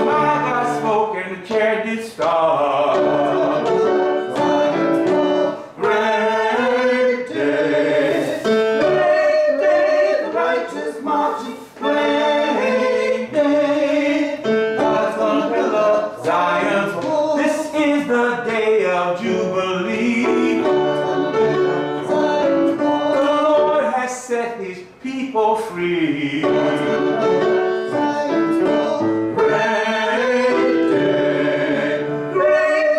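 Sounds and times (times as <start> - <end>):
group singing a church anthem: 0.0 - 32.9.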